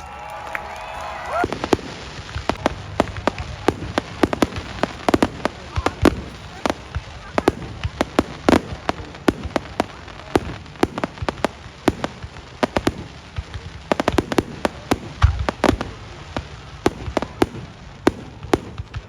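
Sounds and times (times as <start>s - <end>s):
fireworks bangs: 0.0s - 19.0s
deep firework boom: 0.3s - 19.0s.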